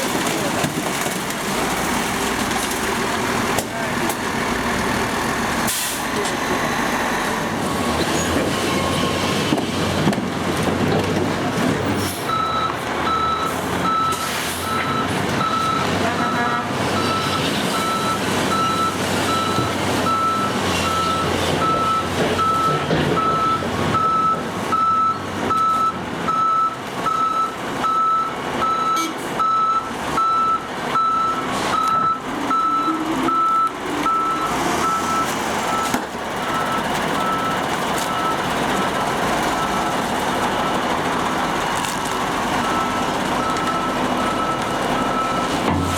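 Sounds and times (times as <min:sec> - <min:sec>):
truck engine: 0:00.0 - 0:45.9.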